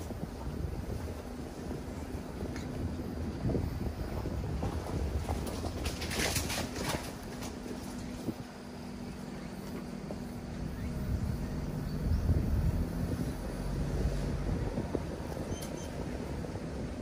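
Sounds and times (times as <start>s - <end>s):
diesel van engine rumbling: 0.0s - 17.0s.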